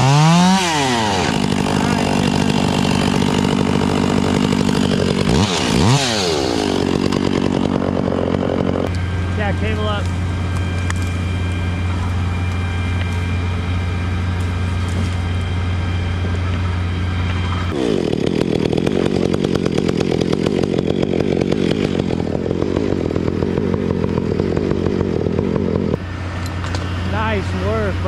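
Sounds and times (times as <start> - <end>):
chainsaw cutting through trunk: 0.0 - 27.9.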